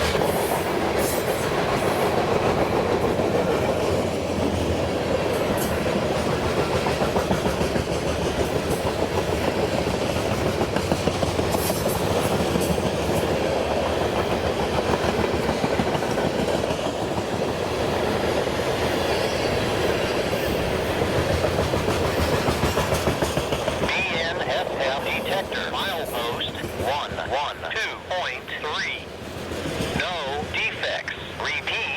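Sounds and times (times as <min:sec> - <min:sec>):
train wheels clattering on rails: 0:00.0 - 0:27.3, 0:28.8 - 0:30.6.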